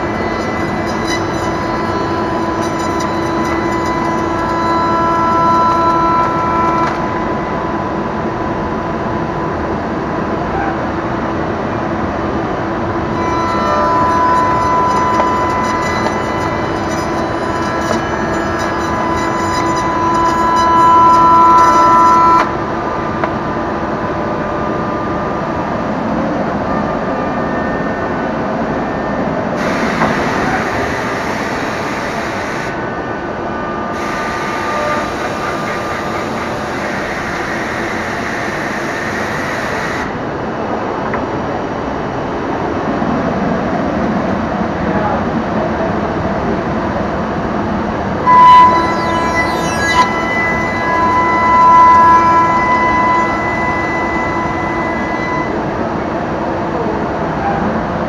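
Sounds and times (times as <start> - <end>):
cnc router high whine: 0.0 - 58.0
rough hissy machine running noise: 0.0 - 58.0.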